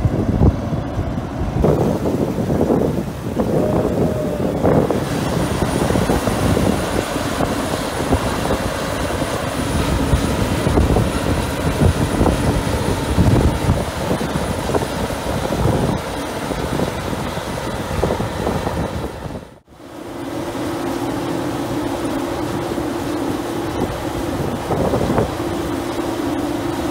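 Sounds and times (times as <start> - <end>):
combine harvester mechanical drone: 0.0 - 26.9.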